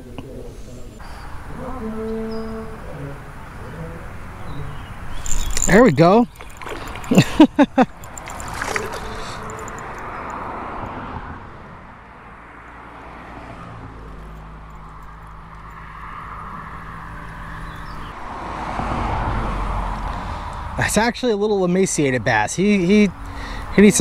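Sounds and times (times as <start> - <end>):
road traffic noise: 0.0 - 24.0
steady engine hum: 0.0 - 24.0.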